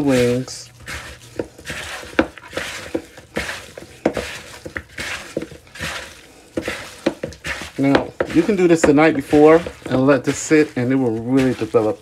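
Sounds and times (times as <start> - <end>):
hands squishing raw chicken: 0.0 - 12.0.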